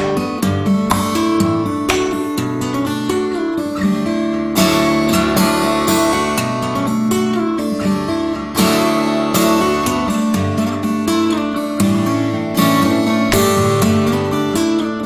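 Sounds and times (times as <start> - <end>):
strummed guitar music: 0.0 - 15.0.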